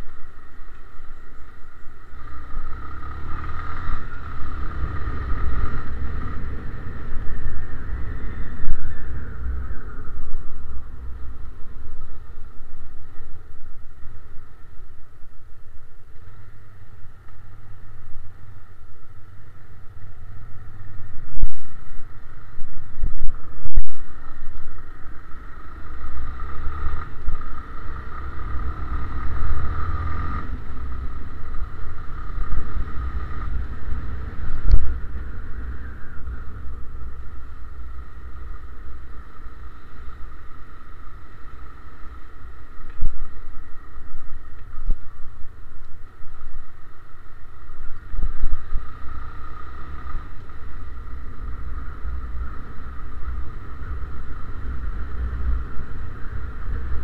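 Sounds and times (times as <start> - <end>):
muffled motorcycle engine: 0.0 - 57.0.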